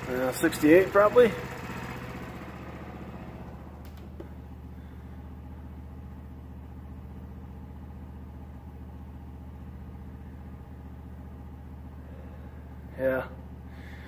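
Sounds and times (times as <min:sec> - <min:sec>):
generator running: 0:00.0 - 0:14.0.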